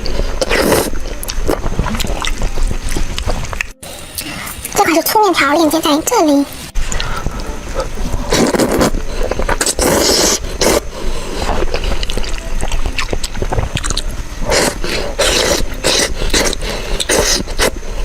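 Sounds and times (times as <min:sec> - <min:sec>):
person chewing: 0:00.0 - 0:04.7, 0:06.8 - 0:18.0
person slurping noodles: 0:00.0 - 0:04.7, 0:06.9 - 0:18.0.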